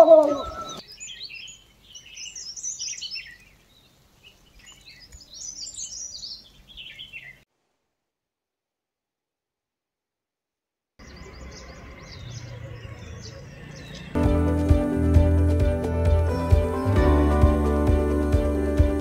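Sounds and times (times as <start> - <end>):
songbird chirps and trills: 0.0 - 7.4, 11.0 - 19.0.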